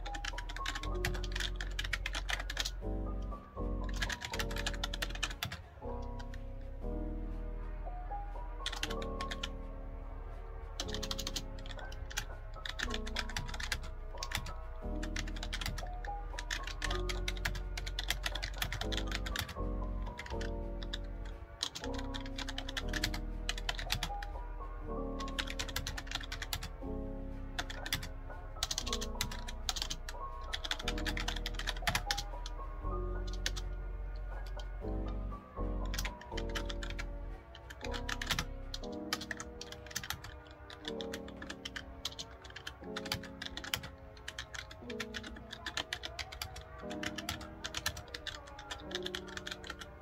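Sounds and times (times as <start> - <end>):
keyboard typing: 0.0 - 6.6, 8.6 - 9.6, 10.7 - 26.8, 27.4 - 50.0
background music: 0.0 - 50.0.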